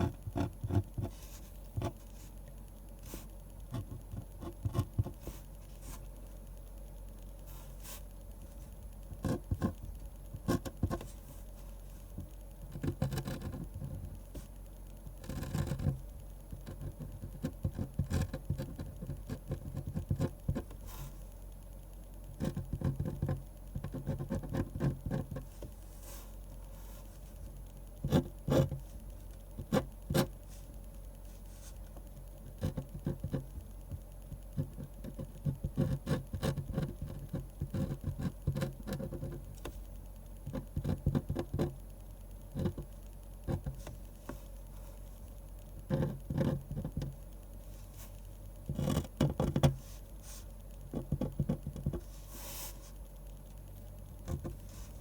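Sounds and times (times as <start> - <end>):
pen scratching and tapping on paper: 0.0 - 2.4, 3.0 - 6.1, 7.8 - 11.2, 12.0 - 21.0, 22.3 - 26.2, 27.0 - 30.7, 31.3 - 44.5, 45.8 - 47.2, 47.8 - 53.0, 54.1 - 55.0.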